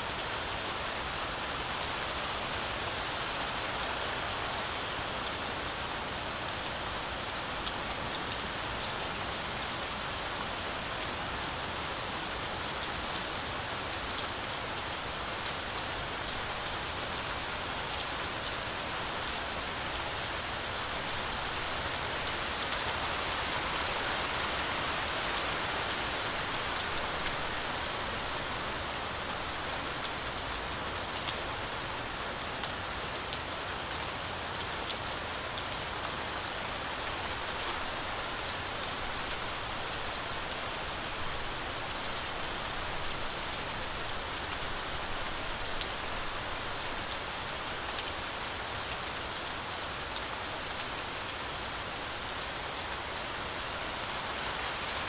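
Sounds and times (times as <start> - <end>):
heavy rain on forest canopy: 0.0 - 55.0.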